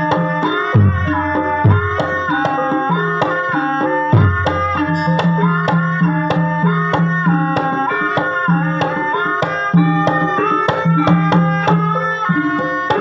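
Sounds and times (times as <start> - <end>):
drum strokes: 0.0 - 13.0
gamelan music: 0.0 - 13.0.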